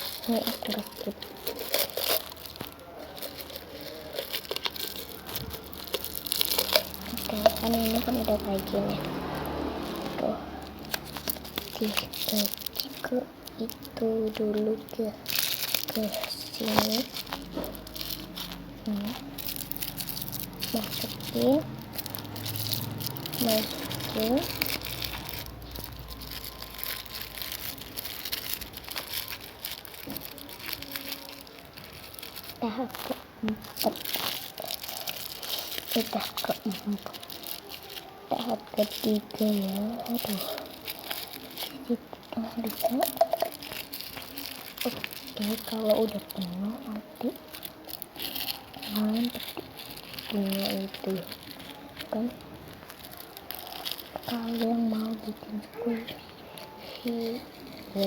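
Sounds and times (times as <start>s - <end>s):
plastic crinkling and rustling: 0.0s - 58.0s.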